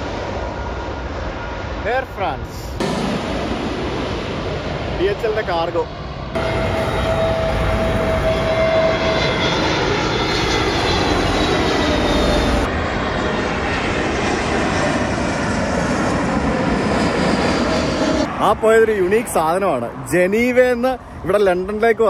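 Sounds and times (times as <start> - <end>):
jet airliner engine roar: 0.0 - 22.0.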